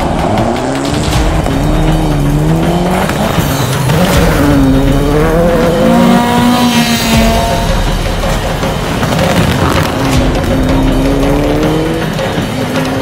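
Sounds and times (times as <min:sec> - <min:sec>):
car engine revving hard: 0:00.0 - 0:13.0
tyre noise: 0:00.0 - 0:13.0.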